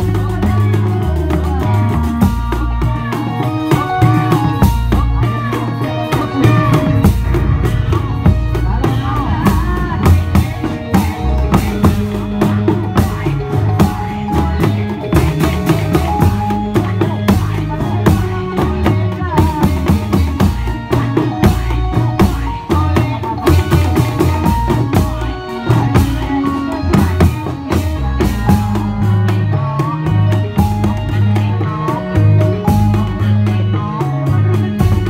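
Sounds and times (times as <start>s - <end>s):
bass line: 0.0s - 35.0s
drums beating: 0.0s - 35.0s
sliding melody instrument: 0.0s - 35.0s.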